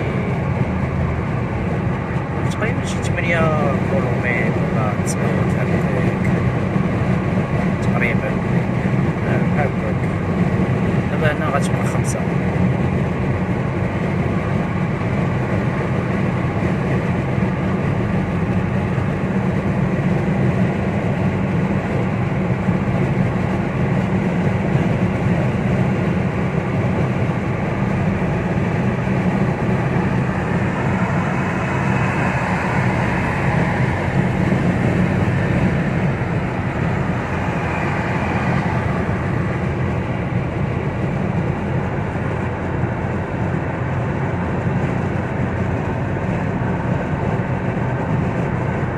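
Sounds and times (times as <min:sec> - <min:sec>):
car engine drone: 0:00.0 - 0:48.9.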